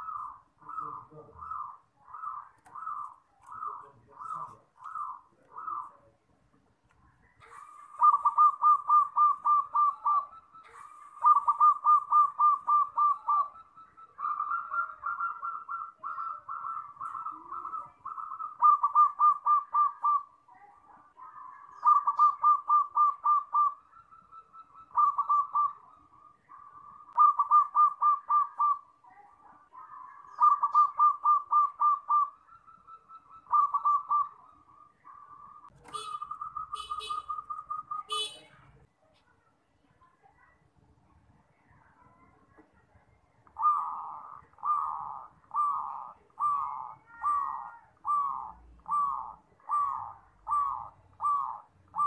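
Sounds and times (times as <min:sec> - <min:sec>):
dove cooing: 0:00.0 - 0:06.2, 0:07.3 - 0:38.5, 0:43.4 - 0:52.0.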